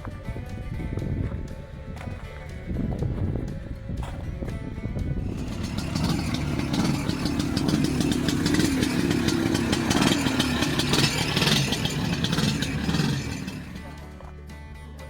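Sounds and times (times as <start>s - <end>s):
snowmobile engine running: 1.2s - 14.4s.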